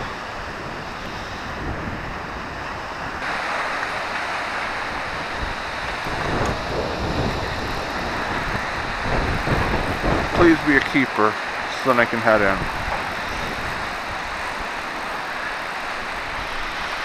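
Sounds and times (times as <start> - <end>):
choppy river water: 0.0 - 17.0
wind buffeting microphone: 0.0 - 17.0.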